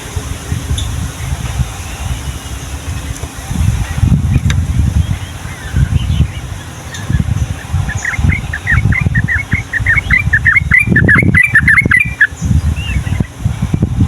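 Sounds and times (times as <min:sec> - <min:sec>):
bird singing rolling falling notes: 0:00.0 - 0:13.9.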